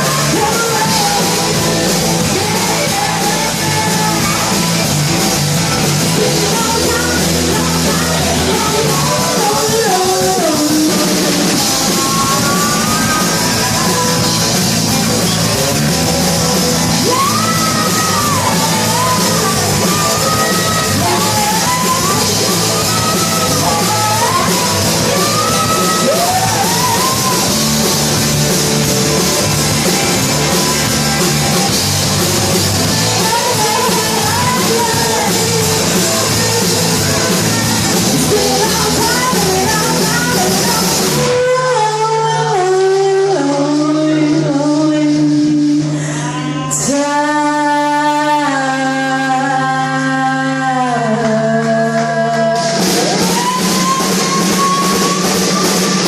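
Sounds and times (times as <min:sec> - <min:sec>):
drum kit: 0:00.0 - 0:46.9, 0:51.0 - 0:56.0
rock band playing live: 0:00.0 - 0:50.4, 0:51.0 - 0:56.0.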